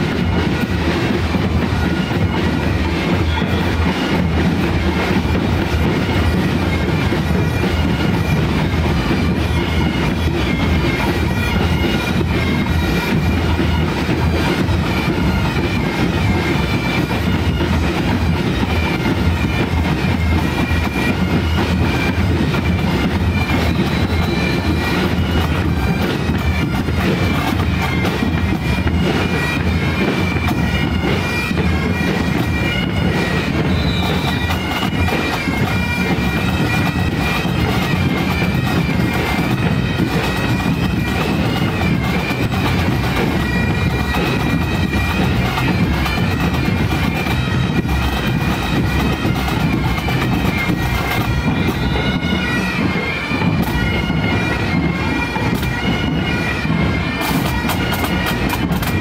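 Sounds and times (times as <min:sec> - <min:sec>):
bagpipes playing a tune: 0:00.0 - 0:59.0
drums beating: 0:00.0 - 0:59.0.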